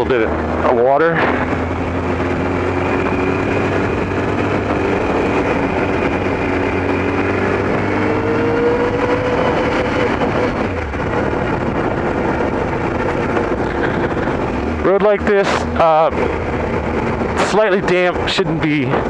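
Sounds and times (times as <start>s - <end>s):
motorcycle engine running: 0.0s - 19.0s
wind and road noise: 0.0s - 19.0s.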